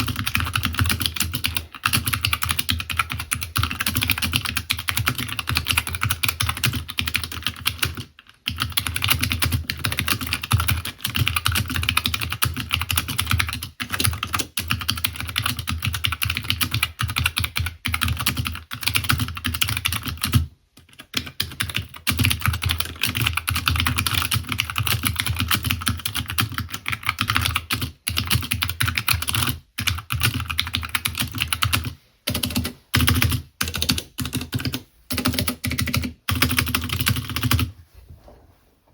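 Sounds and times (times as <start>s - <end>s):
fast mechanical keyboard typing: 0.0s - 37.7s.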